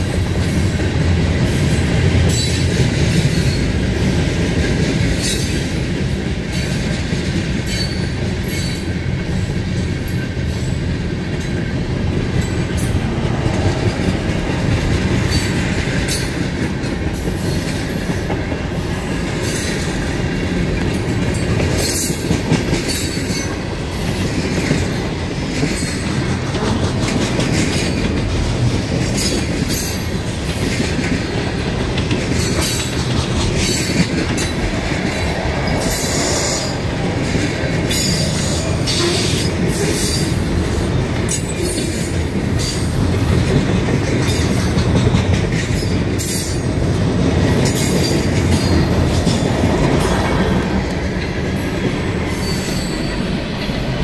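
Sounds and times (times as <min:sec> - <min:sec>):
train wheels rumbling on rail: 0:00.0 - 0:54.0
wheels clicking over rail joints: 0:00.1 - 0:54.0.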